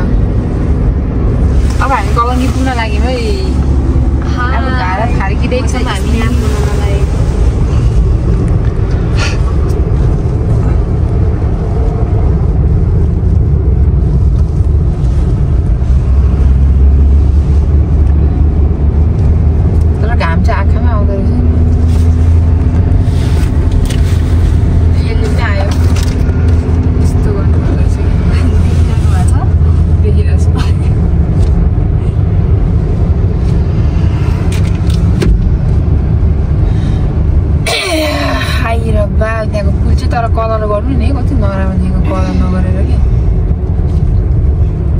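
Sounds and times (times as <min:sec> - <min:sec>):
vehicle rumble: 0:00.0 - 0:44.9.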